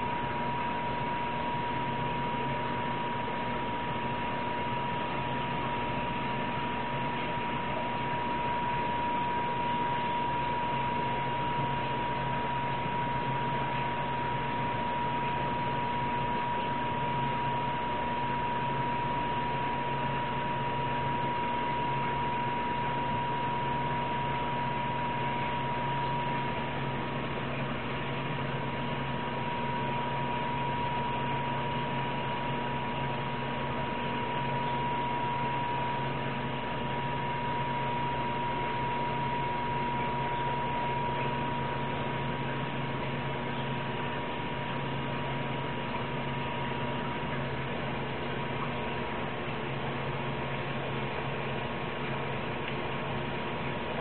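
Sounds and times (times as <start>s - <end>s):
aquarium pump running: 0.0s - 54.0s.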